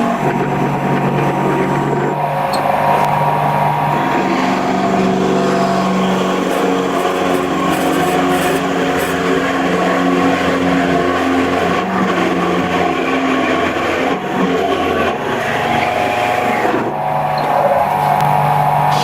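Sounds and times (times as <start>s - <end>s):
woodworking power tool motor: 0.0s - 19.0s.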